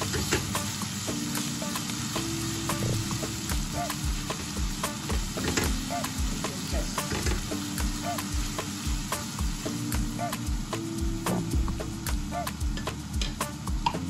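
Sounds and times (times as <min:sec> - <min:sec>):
afrobeat music with steady beat: 0:00.0 - 0:14.0
onions sizzling in a pot: 0:00.0 - 0:14.0.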